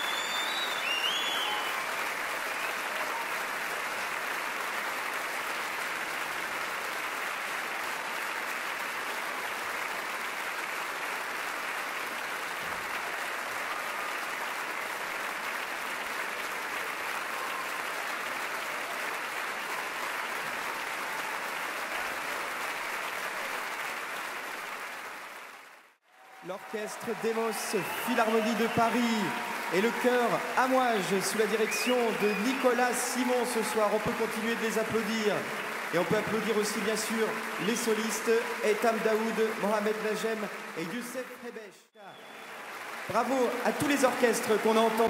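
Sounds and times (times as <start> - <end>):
audience applauding: 0.0 - 45.0.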